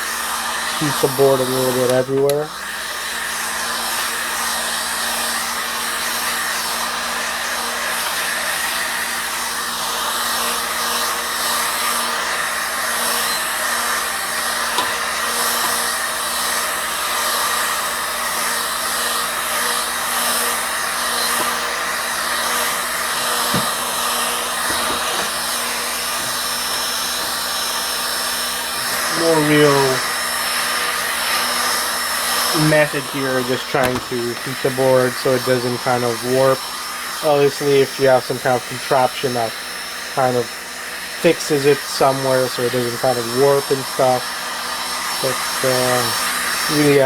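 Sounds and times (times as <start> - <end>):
heat gun blowing air: 0.0 - 47.0.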